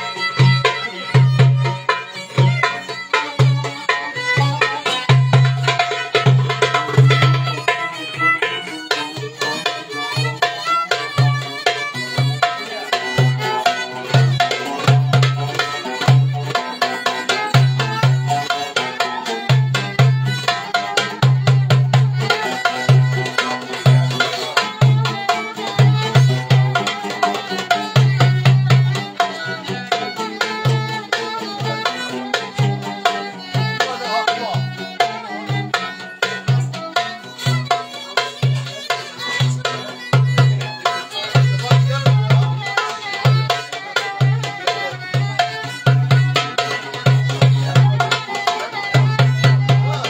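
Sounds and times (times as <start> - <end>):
goblet drum rhythm: 0.0 - 50.0
violin melody: 0.0 - 50.0.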